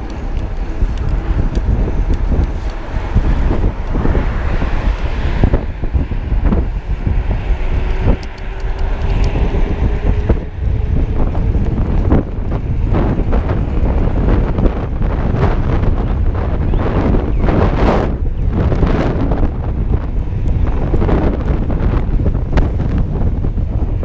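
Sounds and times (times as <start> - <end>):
low rumble of traffic: 0.0 - 24.0
wind buffeting microphone: 0.0 - 24.0.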